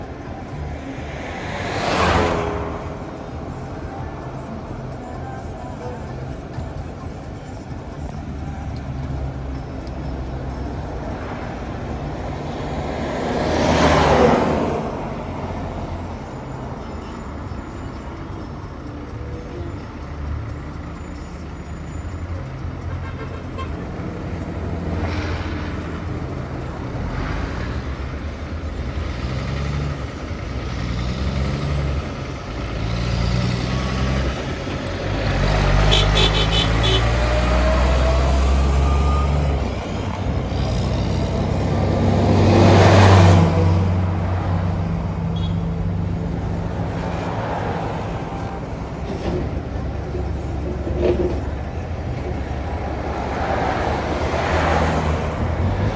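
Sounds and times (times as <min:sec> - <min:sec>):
truck engine changing gears: 0:00.0 - 0:55.9.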